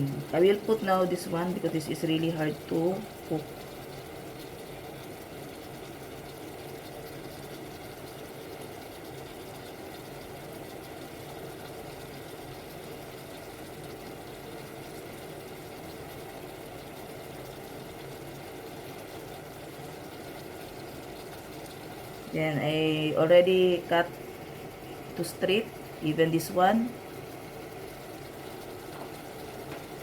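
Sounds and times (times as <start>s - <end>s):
water simmering in a pan: 0.0s - 30.0s.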